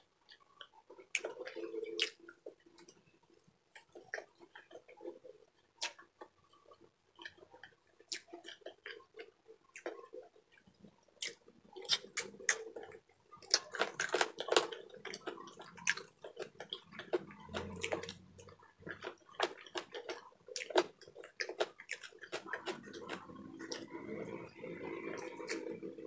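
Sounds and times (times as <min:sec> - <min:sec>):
wet chewing and lip-smacking: 0:00.3 - 0:02.2, 0:05.8 - 0:26.0.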